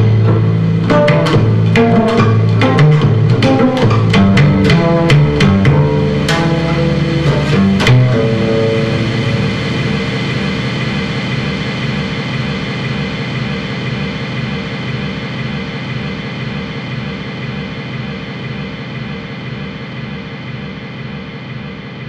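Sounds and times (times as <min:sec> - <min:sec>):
droning held tones: 0:00.0 - 0:22.0.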